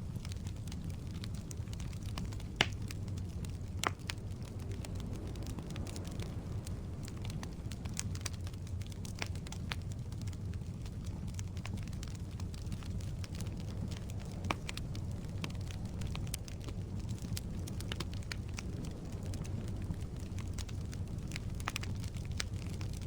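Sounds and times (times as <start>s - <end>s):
burning logs popping: 0.0s - 23.0s
fire crackling: 0.0s - 23.0s
fire flames rumbling: 0.0s - 23.0s.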